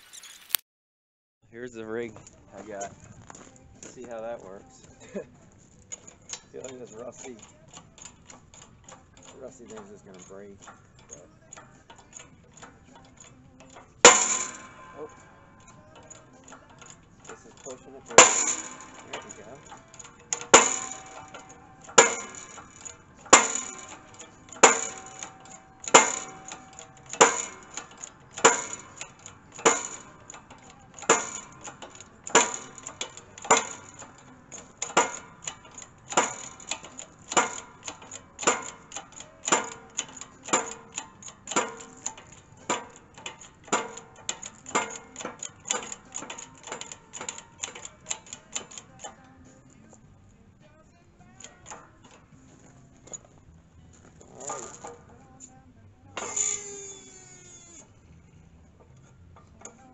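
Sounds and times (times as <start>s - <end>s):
hydraulic jack clicking: 2.2s - 59.9s.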